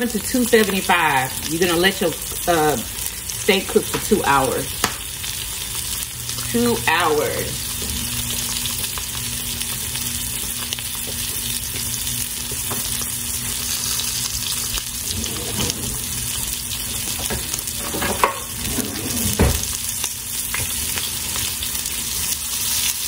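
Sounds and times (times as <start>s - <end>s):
steak sizzling in frying pan: 0.0s - 23.0s.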